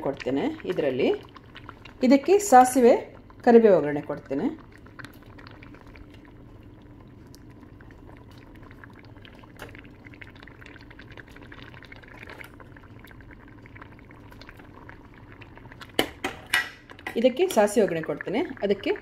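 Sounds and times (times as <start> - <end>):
curry bubbling at a simmer: 0.0 - 19.0.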